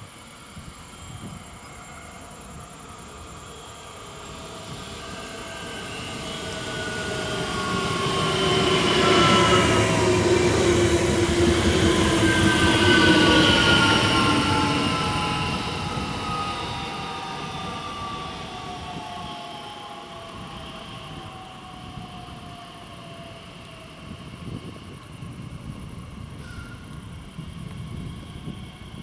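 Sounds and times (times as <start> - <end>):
train rolling noise: 0.0 - 29.0
whining tones gliding down: 0.0 - 29.0.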